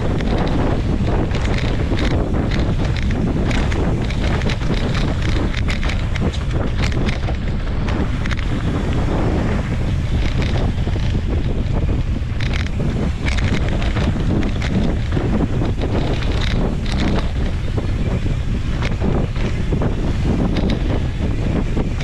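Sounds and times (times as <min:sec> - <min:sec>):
bike clicks and rattles: 0:00.0 - 0:22.0
tyres rolling over dirt and rocks: 0:00.0 - 0:22.0
wind rushing over microphone: 0:00.0 - 0:22.0.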